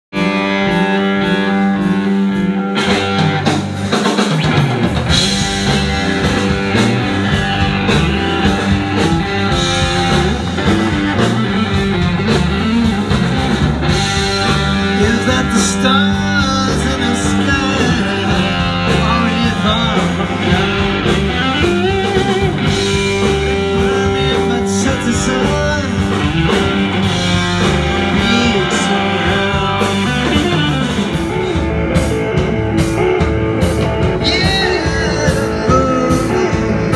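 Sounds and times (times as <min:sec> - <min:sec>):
bass guitar: 0:00.1 - 0:36.9
drum kit: 0:00.1 - 0:36.9
electric guitar bent notes: 0:00.1 - 0:36.9.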